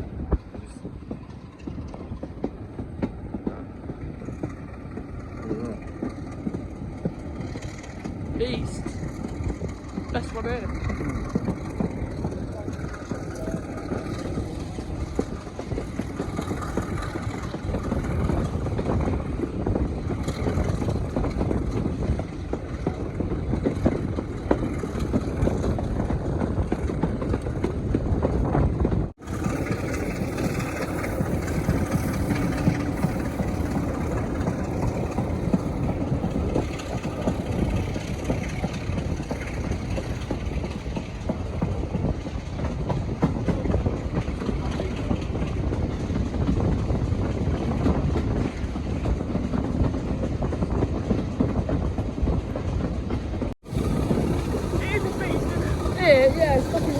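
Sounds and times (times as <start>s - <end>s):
diesel locomotive engine rumbling: 0.0s - 56.9s.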